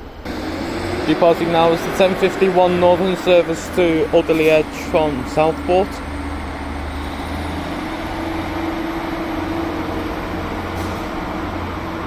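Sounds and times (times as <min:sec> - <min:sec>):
train diesel engines droning: 0:00.0 - 0:12.0.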